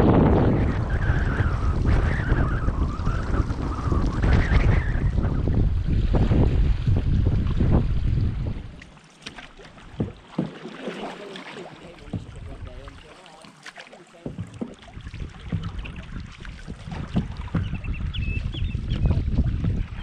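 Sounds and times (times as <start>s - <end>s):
wind buffeting microphone: 0.0s - 10.5s, 11.8s - 13.2s, 14.2s - 20.0s
paddle strokes splashing: 0.6s - 20.0s.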